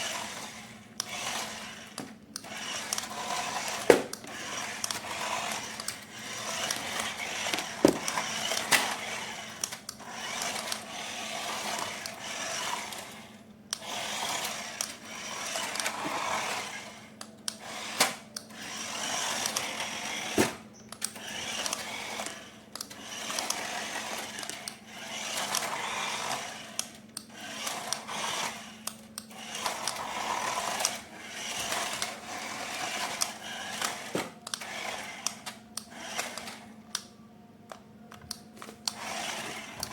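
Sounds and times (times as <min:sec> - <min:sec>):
small electric motor whirring: 0:00.0 - 0:36.8, 0:38.6 - 0:39.9.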